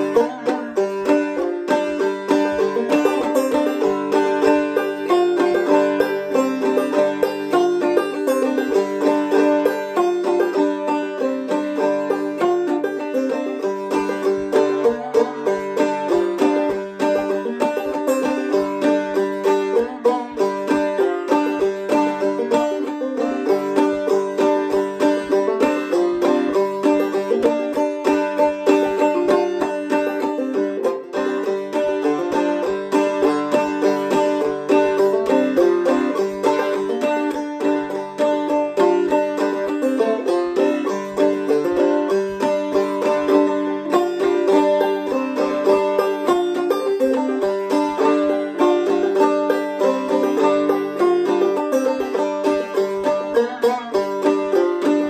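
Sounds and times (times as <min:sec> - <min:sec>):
banjo played clawhammer style: 0:00.0 - 0:55.0.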